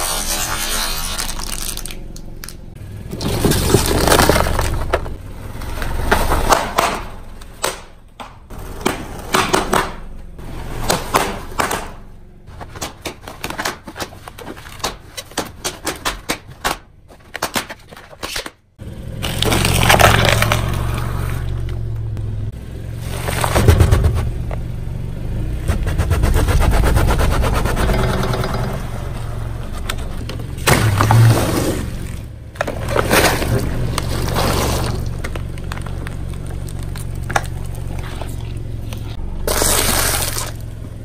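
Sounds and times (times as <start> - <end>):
tyre crushing objects on concrete: 0.6 - 21.8, 25.7 - 41.0
car low rumble: 1.3 - 15.2, 18.8 - 41.0.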